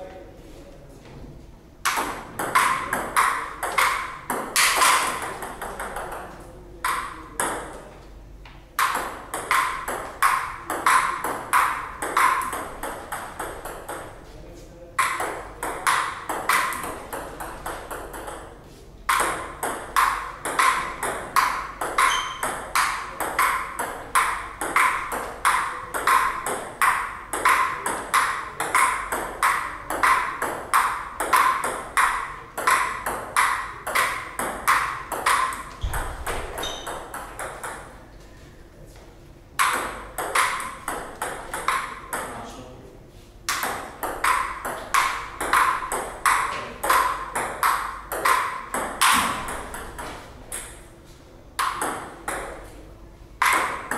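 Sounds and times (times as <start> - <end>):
table tennis ball clicking: 1.9 - 7.7, 8.8 - 14.1, 15.0 - 18.5, 19.1 - 38.0, 39.6 - 42.3, 43.5 - 50.8.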